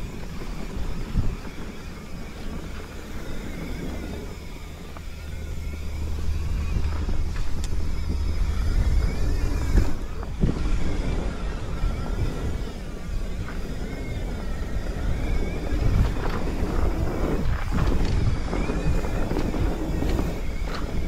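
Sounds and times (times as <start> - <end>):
bike tyres rumbling on dirt: 0.0 - 21.0
wind on microphone: 0.0 - 21.0.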